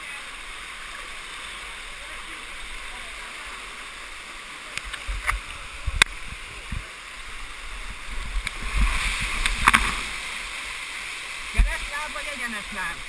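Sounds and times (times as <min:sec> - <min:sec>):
rushing white water: 0:00.0 - 0:13.0.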